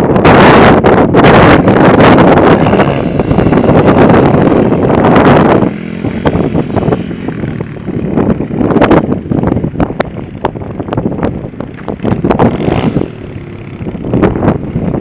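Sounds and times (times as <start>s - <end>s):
wind buffeting microphone: 0.0s - 15.0s
distant motorbike engine: 1.2s - 15.0s.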